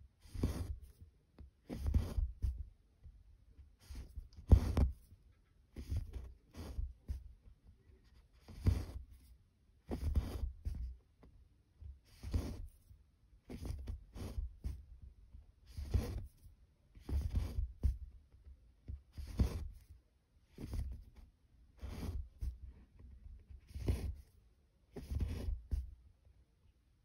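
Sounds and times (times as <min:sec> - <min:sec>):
thread rasping through fabric: 0:00.1 - 0:02.8, 0:03.6 - 0:11.2, 0:11.8 - 0:26.0.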